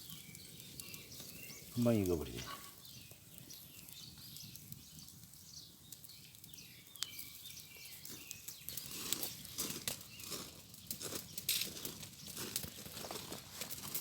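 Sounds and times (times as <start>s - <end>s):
birds chirping: 0.0s - 11.5s
pork crackling on a hot grill: 0.0s - 14.0s.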